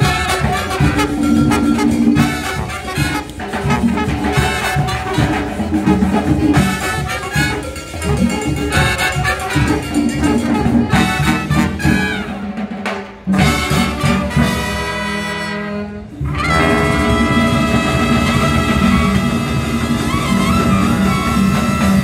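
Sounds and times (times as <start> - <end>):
drums: 0.0 - 22.0
marching band playing latin music: 0.0 - 22.0
trumpets and trombones: 0.0 - 22.0.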